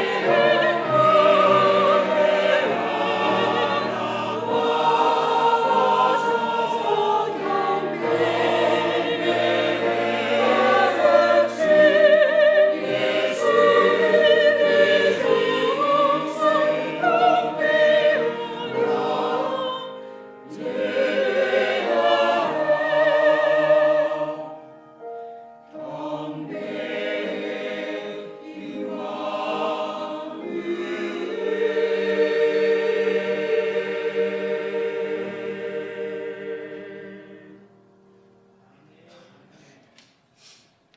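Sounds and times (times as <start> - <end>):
church choir singing: 0.0 - 38.6.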